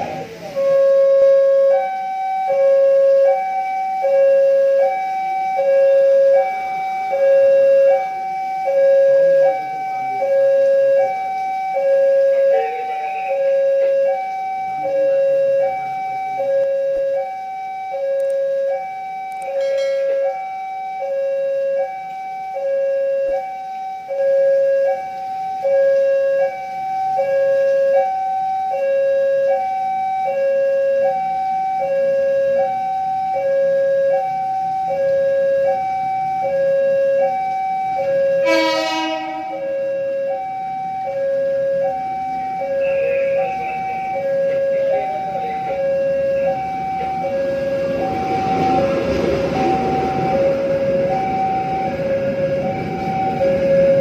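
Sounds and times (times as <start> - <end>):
two-tone level crossing alarm: 0.0 - 54.0.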